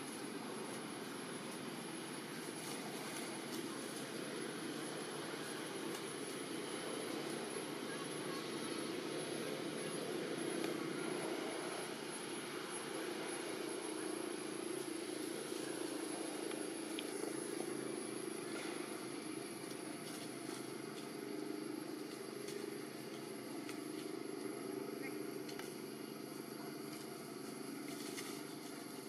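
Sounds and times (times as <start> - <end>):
high-pitched whine: 0.0 - 29.0
low background drone: 0.0 - 29.0.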